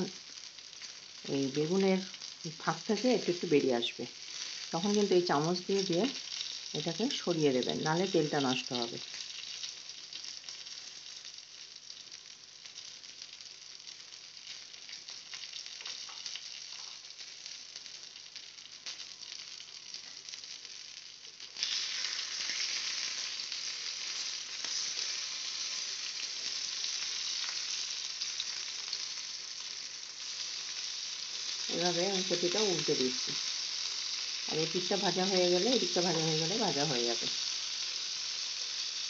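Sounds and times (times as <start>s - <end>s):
food sizzling in oil: 0.0s - 39.0s.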